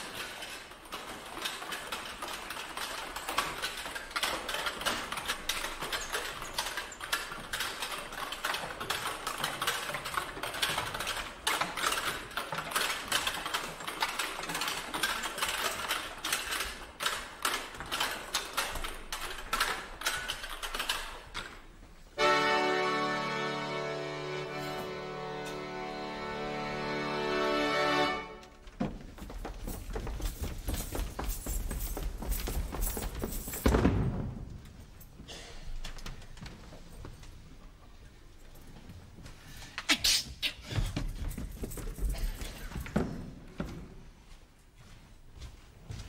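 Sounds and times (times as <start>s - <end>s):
chairs clattering against each other: 0.0s - 23.8s, 28.1s - 39.2s, 40.6s - 44.3s.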